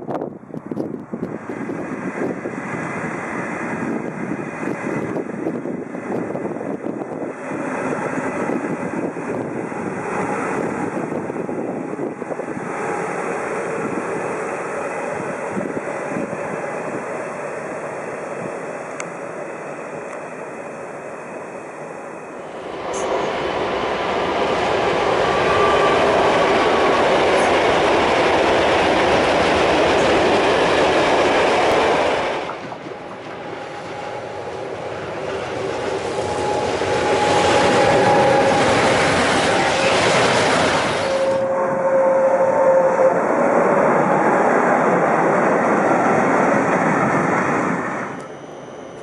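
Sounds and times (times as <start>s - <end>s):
electric locomotive hauling freight: 0.0s - 49.0s.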